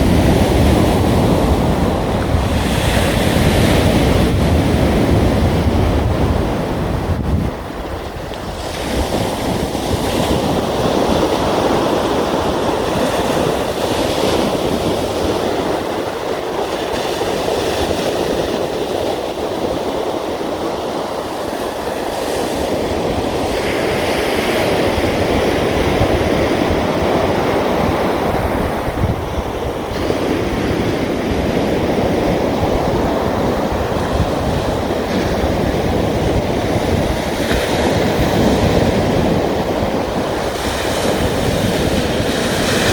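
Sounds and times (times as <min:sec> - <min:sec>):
sea waves rushing onto shore: 0:00.0 - 0:42.9.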